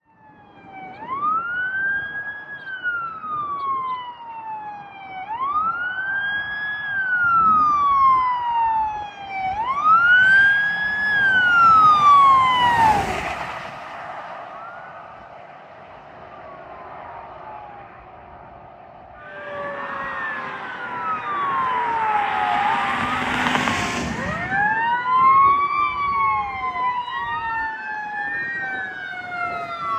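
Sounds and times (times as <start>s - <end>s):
fire engine siren wailing: 0.0s - 29.9s
engine and road noise passing: 5.1s - 29.9s.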